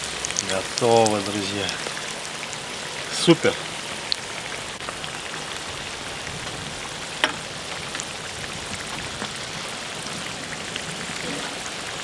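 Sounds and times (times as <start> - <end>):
fat crackling and popping: 0.0 - 12.0
potatoes sizzling in fat: 0.0 - 12.0.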